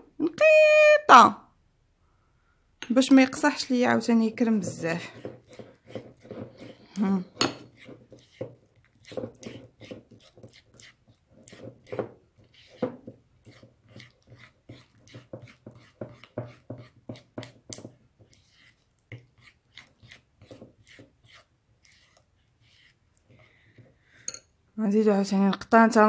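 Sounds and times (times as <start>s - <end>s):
spoon stirring slime: 2.8s - 24.5s.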